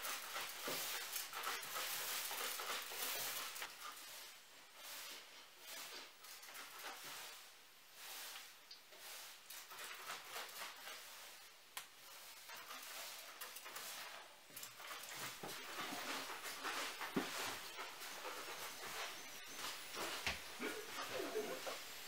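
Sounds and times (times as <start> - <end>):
broom sweeping wooden floor: 0.0 - 22.0.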